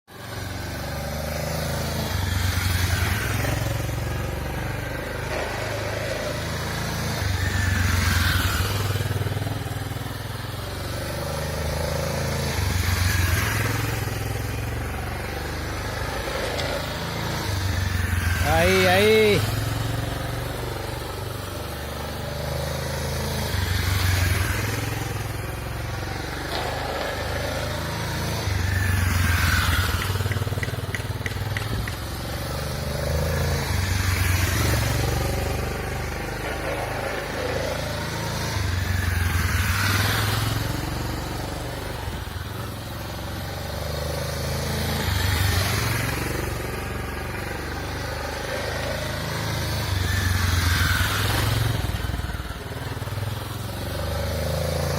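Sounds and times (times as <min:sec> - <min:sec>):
motorcycle engine accelerating: 0:00.1 - 0:54.9.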